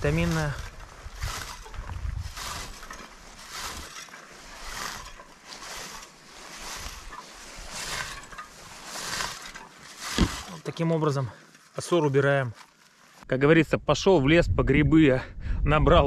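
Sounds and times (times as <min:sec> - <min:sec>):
scoop rustling through plants: 0:00.0 - 0:13.2.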